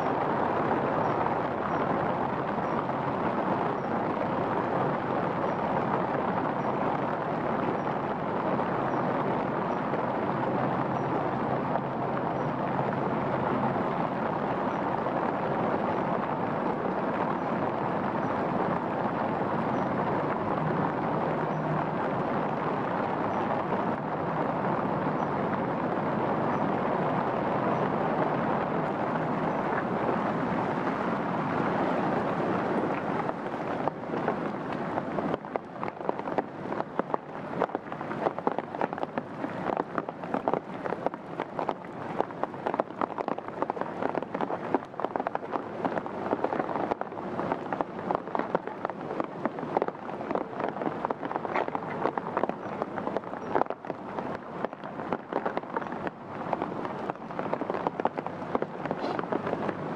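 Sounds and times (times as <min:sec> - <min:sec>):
large raindrops pattering: 0:00.0 - 0:59.9
rain hissing: 0:00.0 - 0:59.9.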